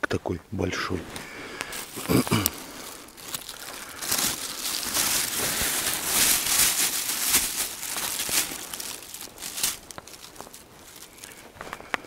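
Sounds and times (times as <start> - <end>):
leaf litter rustling and crackling: 1.0 - 12.0.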